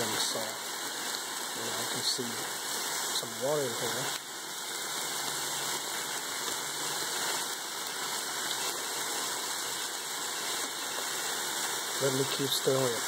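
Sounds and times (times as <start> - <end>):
stir-fry sizzling in a frying pan: 0.0 - 13.0.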